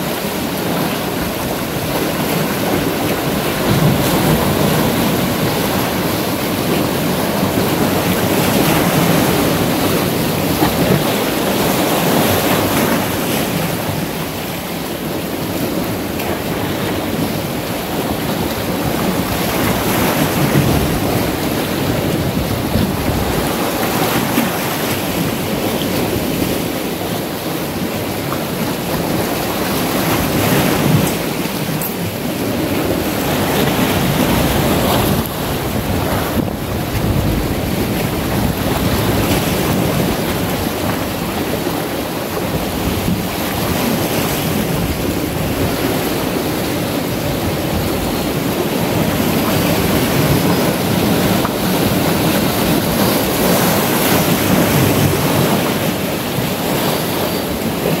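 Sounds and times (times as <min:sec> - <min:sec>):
sea waves washing on rocks: 0:00.0 - 0:58.0.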